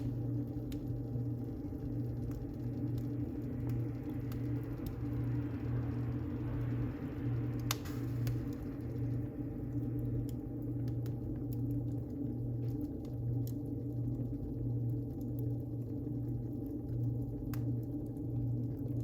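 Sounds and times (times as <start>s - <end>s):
fire crackling in fireplace: 0.0s - 19.0s.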